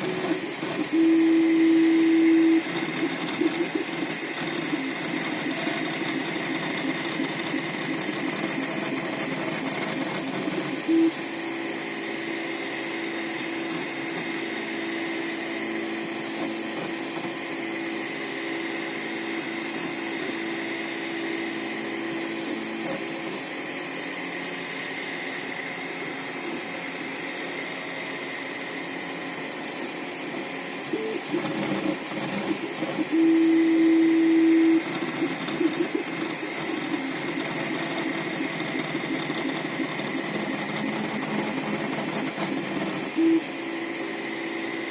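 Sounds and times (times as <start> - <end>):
printer stepper motors whining: 0.0 - 23.6, 30.7 - 44.9.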